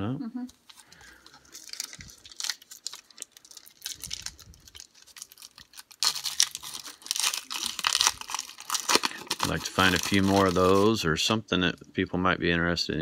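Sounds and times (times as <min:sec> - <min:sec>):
plastic packaging rustling: 0:00.6 - 0:11.1.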